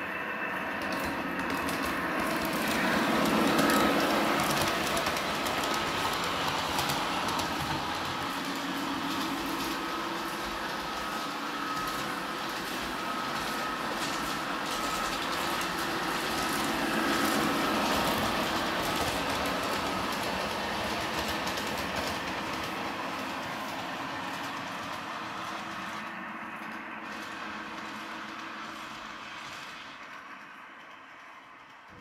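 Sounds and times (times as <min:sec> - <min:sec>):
model train motor whine: 0:00.0 - 0:32.0
wheels rolling over rails: 0:00.0 - 0:32.0.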